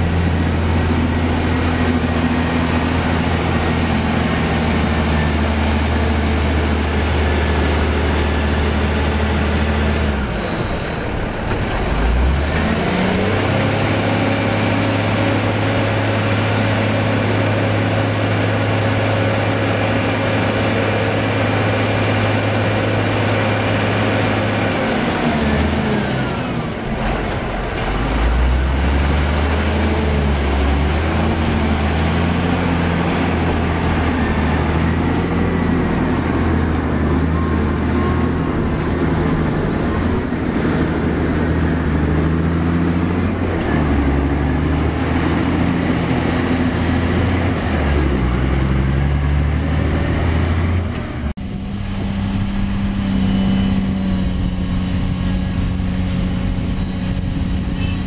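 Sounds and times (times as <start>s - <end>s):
diesel engine idling and revving: 0.0s - 58.0s.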